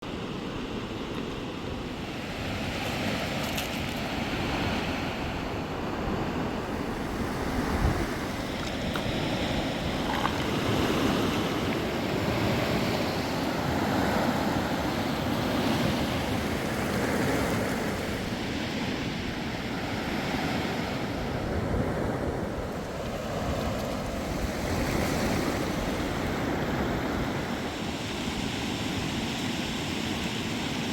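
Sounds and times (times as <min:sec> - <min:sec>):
rushing river water: 0:00.1 - 0:30.9
wind on microphone: 0:00.8 - 0:29.3.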